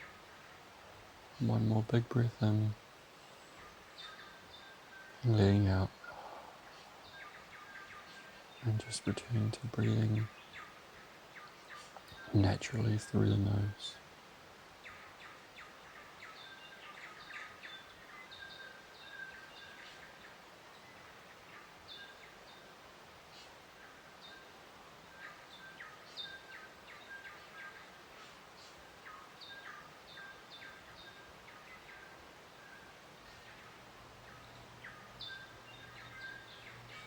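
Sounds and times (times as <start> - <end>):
small birds chirping: 0.0 - 37.0
soft steady hiss: 0.0 - 37.0.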